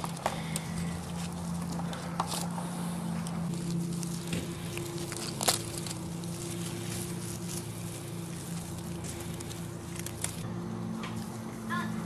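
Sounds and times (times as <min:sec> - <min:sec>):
dry leaves crunching: 0:00.0 - 0:12.0
puppy chewing dry leaf: 0:00.0 - 0:12.0.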